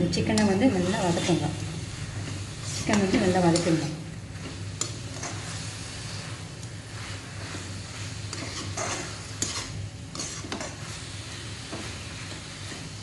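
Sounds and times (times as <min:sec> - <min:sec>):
chicken sizzling in a wok: 0:00.7 - 0:13.0
spatula scraping a wok: 0:00.7 - 0:13.0.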